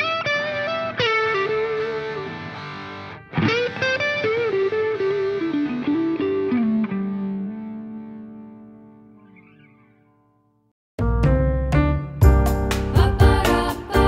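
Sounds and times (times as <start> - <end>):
distorted electric guitar melody: 0.0 - 14.0.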